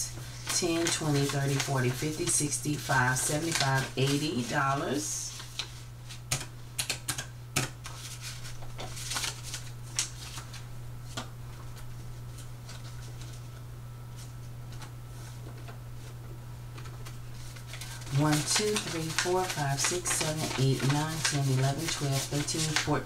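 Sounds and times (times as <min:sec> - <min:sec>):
banknotes rustling: 0:00.0 - 0:23.0
steady low hum: 0:00.0 - 0:23.0.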